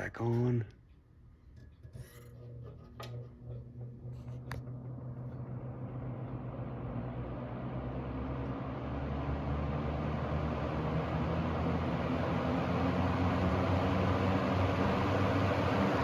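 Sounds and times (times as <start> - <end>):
box fan motor hum and air: 1.8 - 16.0.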